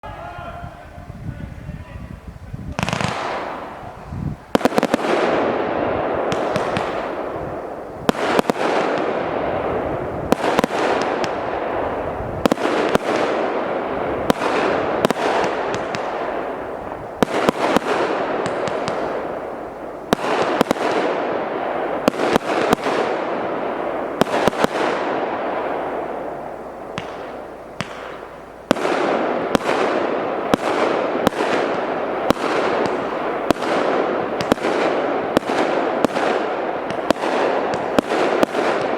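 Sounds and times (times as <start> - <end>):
fireworks shots and bursts: 2.6 - 38.9.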